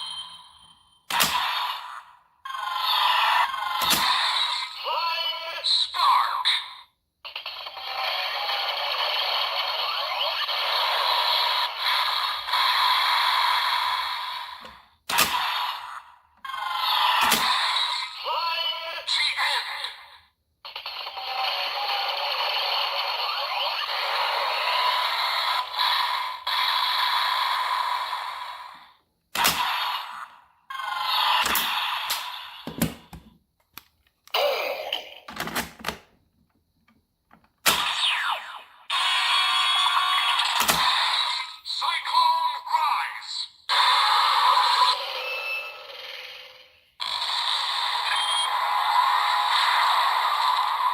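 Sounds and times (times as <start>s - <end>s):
toy electronic sound effects: 1.1s - 28.8s, 29.4s - 33.1s, 34.3s - 35.4s, 37.7s - 50.9s.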